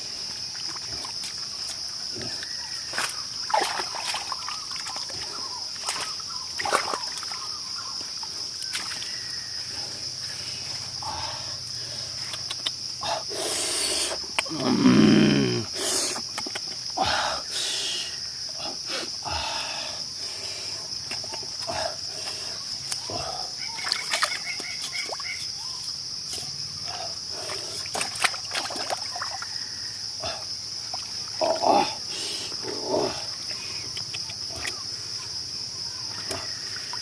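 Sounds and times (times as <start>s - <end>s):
insect chorus droning: 0.0s - 37.0s.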